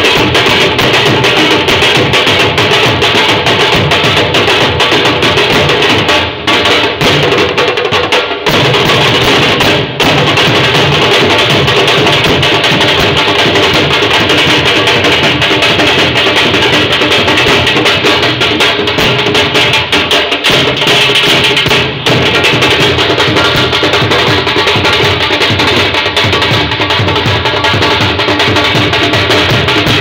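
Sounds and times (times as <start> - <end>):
barrel drums beaten with sticks: 0.0 - 30.0.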